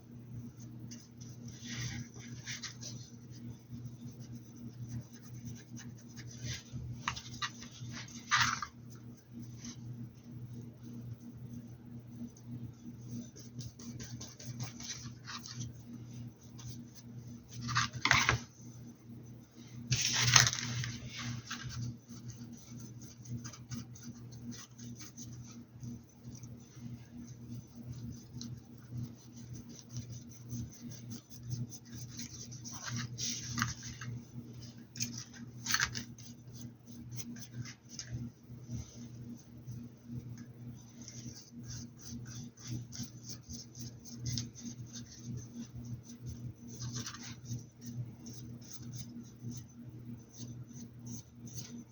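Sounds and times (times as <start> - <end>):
low electrical hum: 0.0 - 51.9
rustling scrapes: 1.0 - 9.9, 13.2 - 18.7, 19.6 - 49.4.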